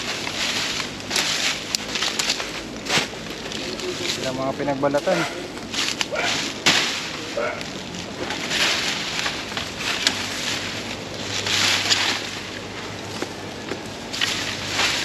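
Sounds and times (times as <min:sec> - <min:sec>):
weeds and brush rustling: 0:00.0 - 0:15.0.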